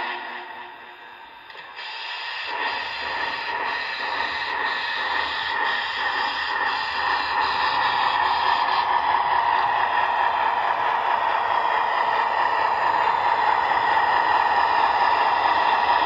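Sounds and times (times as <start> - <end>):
model steam locomotive hiss and exhaust: 0.0 - 16.0.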